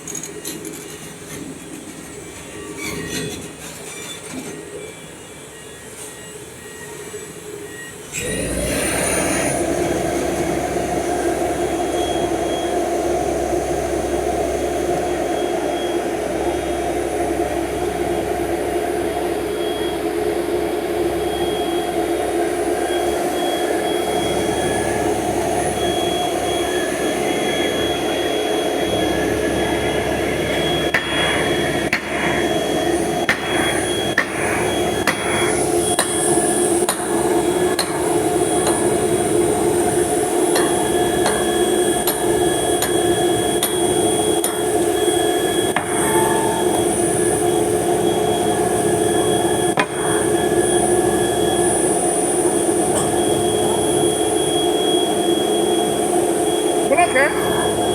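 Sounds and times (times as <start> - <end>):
machine engine running: 8.1 - 57.9.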